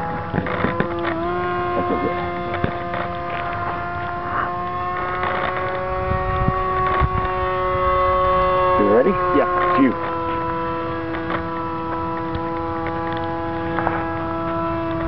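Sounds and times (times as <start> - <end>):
model plane electric motor whine: 0.0 - 15.0
wind buffeting microphone: 0.0 - 15.0.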